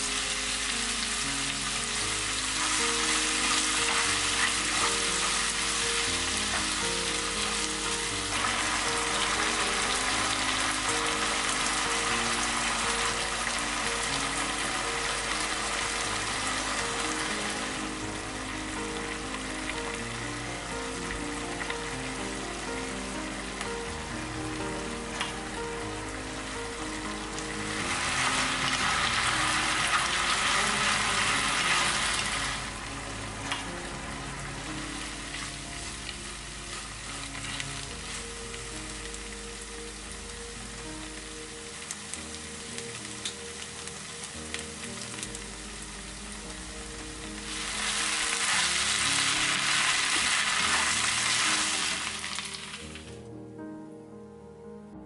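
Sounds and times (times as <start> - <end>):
rice sizzling in a frying pan: 0.0 - 53.2.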